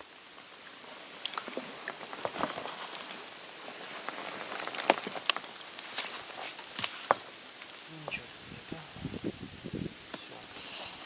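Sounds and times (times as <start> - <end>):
steady hiss: 0.0 - 11.0
water drips and splashes: 0.0 - 11.0.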